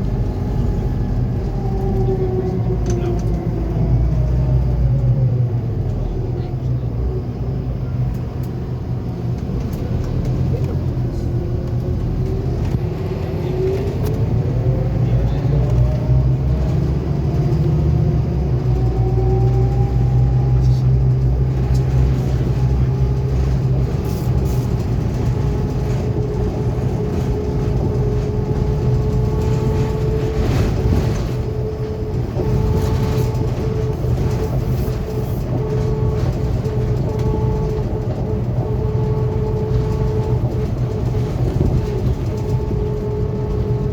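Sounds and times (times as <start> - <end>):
bus engine rumbling: 0.0 - 43.9
drivetrain whine: 0.0 - 43.9.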